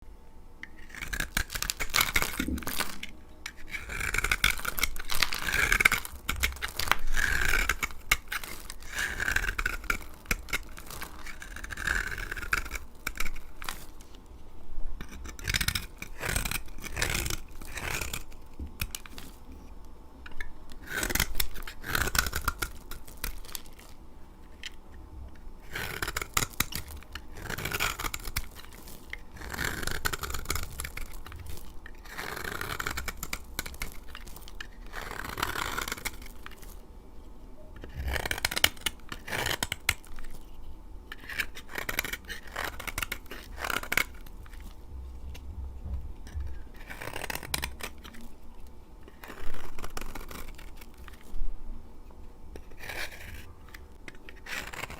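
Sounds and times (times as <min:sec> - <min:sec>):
blade cutting dry soap: 0:00.6 - 0:14.2, 0:15.0 - 0:19.5, 0:20.3 - 0:36.9, 0:37.8 - 0:40.5, 0:41.1 - 0:45.4, 0:46.2 - 0:51.3, 0:52.5 - 0:54.9.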